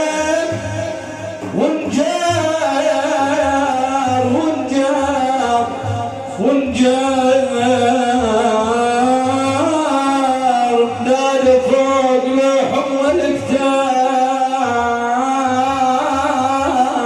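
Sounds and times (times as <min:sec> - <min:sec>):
ornamented religious singing: 0:00.0 - 0:17.0.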